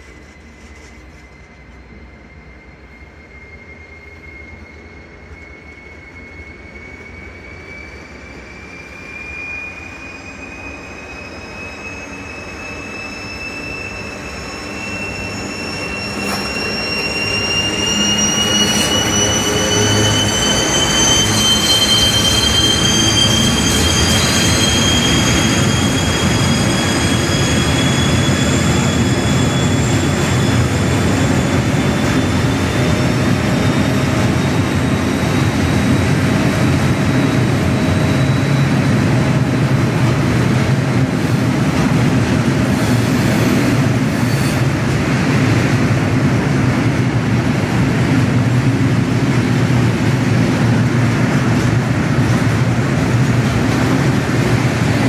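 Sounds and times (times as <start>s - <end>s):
high-pitched wheel squeal: 0.0s - 45.7s
freight train rumbling past: 8.2s - 55.0s.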